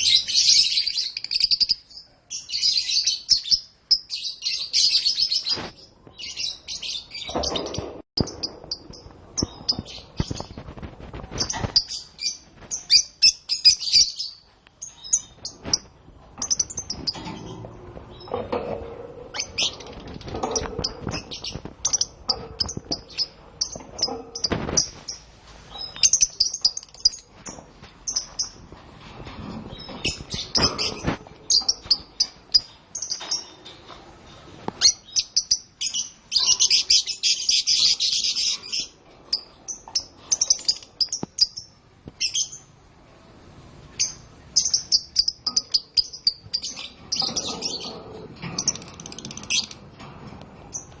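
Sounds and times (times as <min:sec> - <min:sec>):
canaries singing and chirping: 0:00.0 - 0:42.8, 0:43.4 - 0:51.0.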